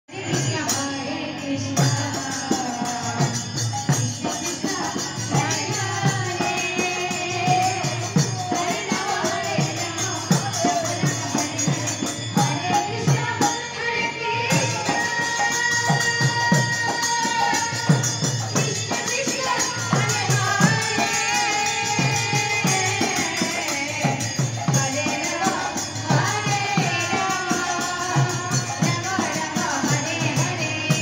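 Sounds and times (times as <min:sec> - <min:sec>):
group singing: 0:00.1 - 0:31.0
jingling metal percussion: 0:00.1 - 0:31.0.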